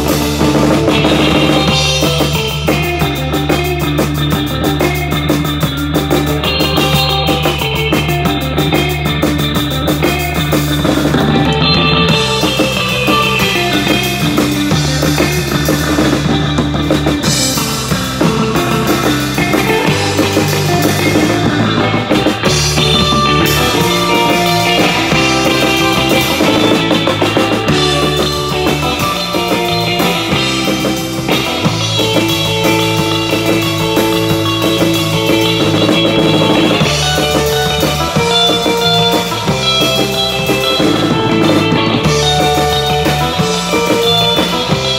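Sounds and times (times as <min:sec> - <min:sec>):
surf rock band playing: 0:00.0 - 0:44.9.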